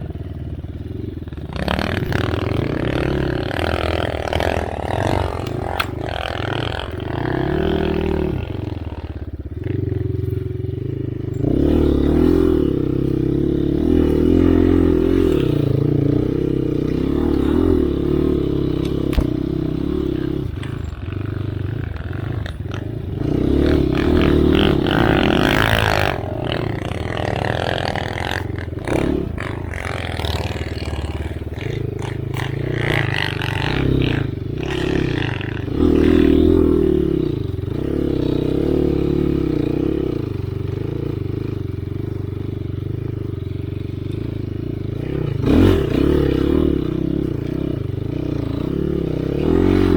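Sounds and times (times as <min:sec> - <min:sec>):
clatter: 0:00.0 - 0:49.9
dirt bike engine revving: 0:00.0 - 0:49.9.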